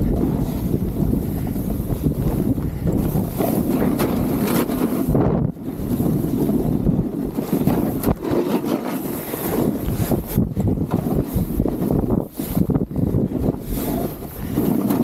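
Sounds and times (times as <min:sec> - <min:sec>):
snowboard scraping over snow: 0:00.0 - 0:15.0
wind on microphone: 0:00.0 - 0:15.0.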